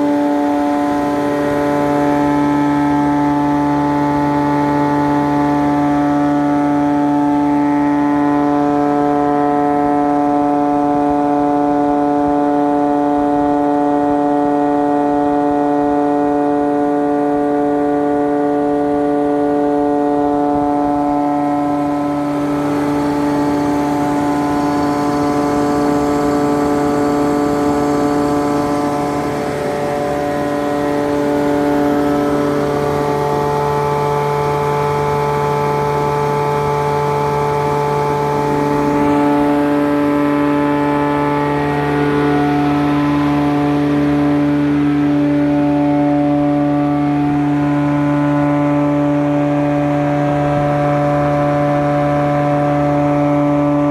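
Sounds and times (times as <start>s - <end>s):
planer humming and whining: 0.0s - 53.9s.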